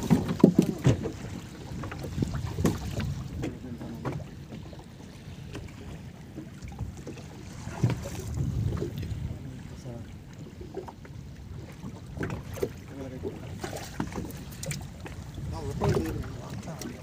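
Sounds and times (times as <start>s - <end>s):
water slapping against boat: 0.0s - 17.0s
wind buffeting microphone: 0.0s - 17.0s.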